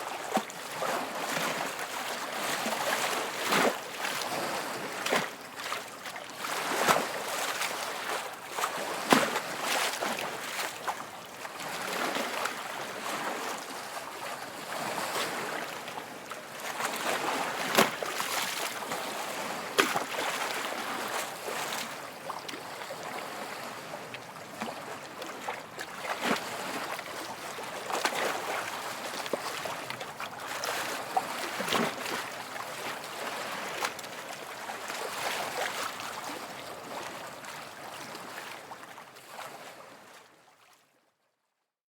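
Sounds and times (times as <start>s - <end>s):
small waves lapping: 0.0s - 40.9s.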